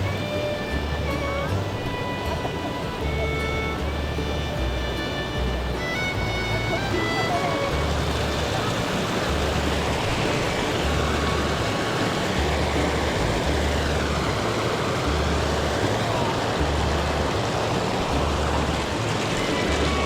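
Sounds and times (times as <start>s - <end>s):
background music with low beat: 0.0s - 20.0s
stream water flowing: 0.0s - 20.0s.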